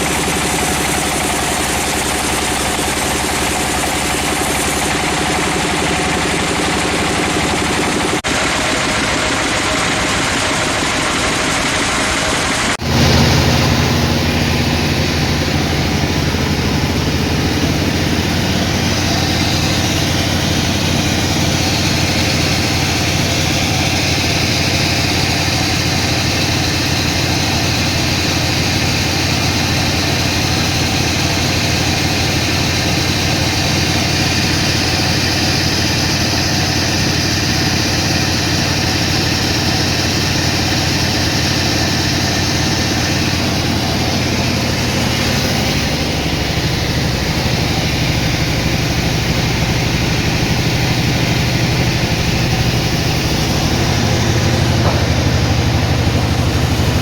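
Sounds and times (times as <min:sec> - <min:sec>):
low pulsing engine note: 0:00.0 - 0:57.0
sawmill machinery running: 0:00.0 - 0:57.0.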